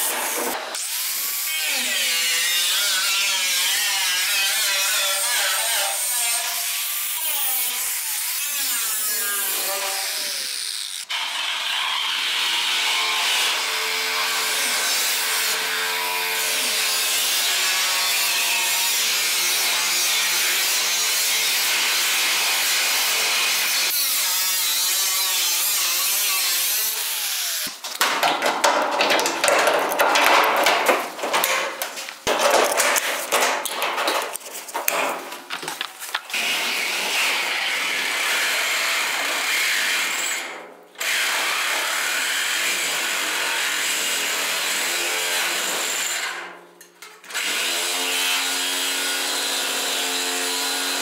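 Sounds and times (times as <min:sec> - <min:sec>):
power tool cutting sheet steel: 0:00.0 - 0:27.9, 0:36.3 - 0:46.5, 0:47.3 - 0:51.0.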